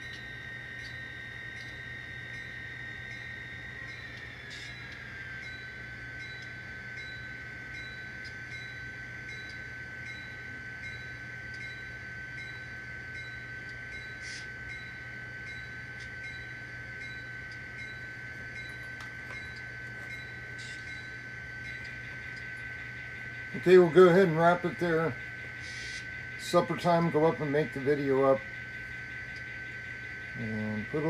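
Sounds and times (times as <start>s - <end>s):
model train whine and hum: 0.0s - 31.0s.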